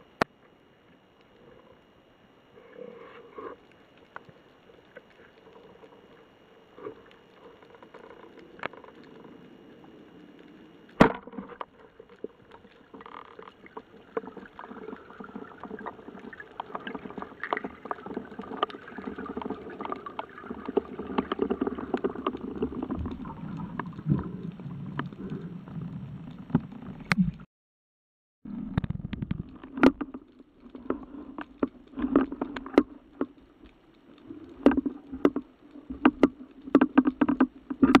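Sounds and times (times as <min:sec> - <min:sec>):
underwater clicking and scraping: 0:00.9 - 0:27.5, 0:28.5 - 0:38.0.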